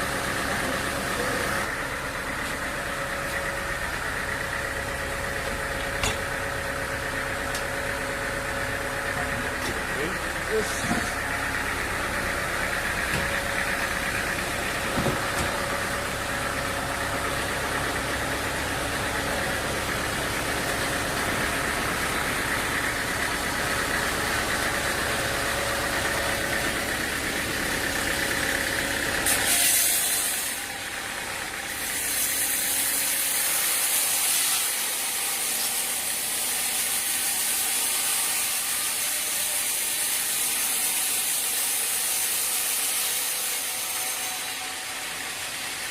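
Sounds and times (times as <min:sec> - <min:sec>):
saw cutting through wood: 0:00.0 - 0:02.6, 0:05.1 - 0:45.9
sawmill machinery droning: 0:00.0 - 0:45.9.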